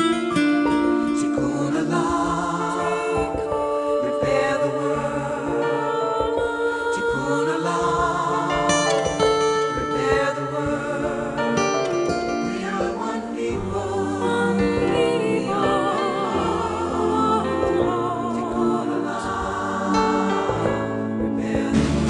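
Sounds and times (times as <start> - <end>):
choral singing on held notes: 0.0 - 22.0
instrumental accompaniment: 0.0 - 22.0.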